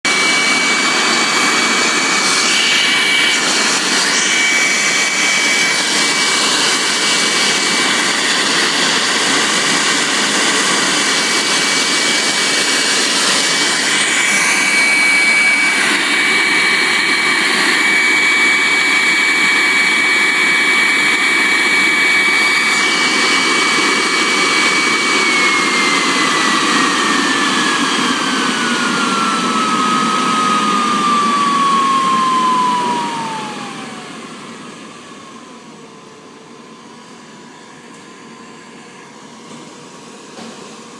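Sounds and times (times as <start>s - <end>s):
vacuum cleaner motor whining: 0.0s - 40.9s.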